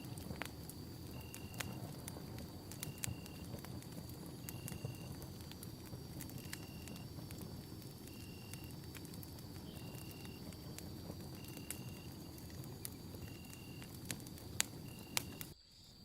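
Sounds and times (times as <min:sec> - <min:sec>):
campfire crackling and popping: 0:00.0 - 0:15.6.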